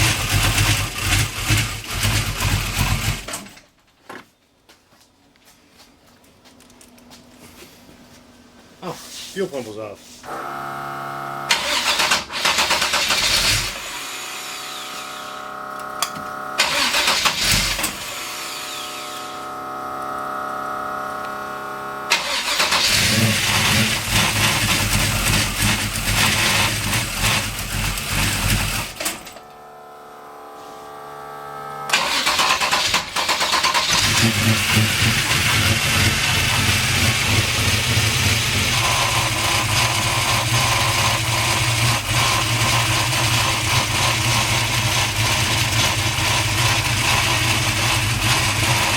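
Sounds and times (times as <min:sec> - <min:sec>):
car engine cranking and starting: 0:00.0 - 0:03.8, 0:10.3 - 0:48.9.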